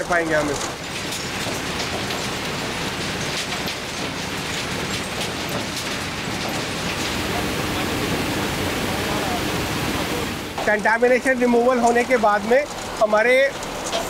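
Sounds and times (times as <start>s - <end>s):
recycling machinery noise: 0.0s - 14.0s
rubble rattling on conveyor belts: 0.0s - 14.0s.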